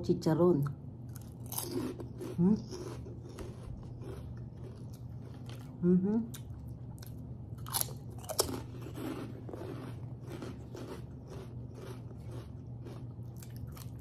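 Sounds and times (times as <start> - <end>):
pork rinds crunching: 1.1 - 5.7, 6.3 - 14.0
chewing small crunches: 1.1 - 14.0.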